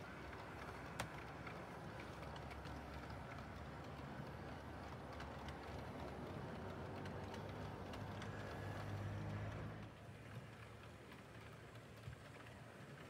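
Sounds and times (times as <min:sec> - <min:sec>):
model train low hum: 0:00.0 - 0:13.0
wheels clicking over rail joints: 0:00.0 - 0:13.0.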